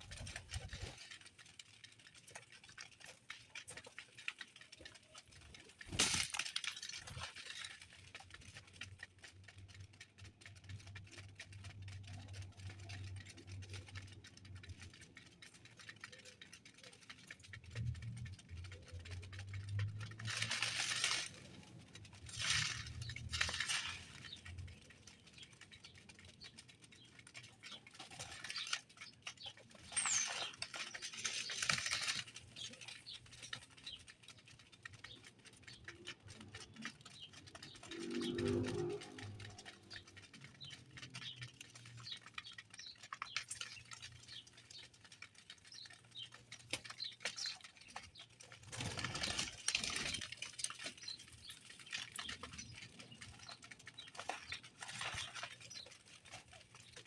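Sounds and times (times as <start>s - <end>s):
birds pecking clicks and taps: 0.0s - 57.0s
wings fluttering: 0.0s - 57.0s.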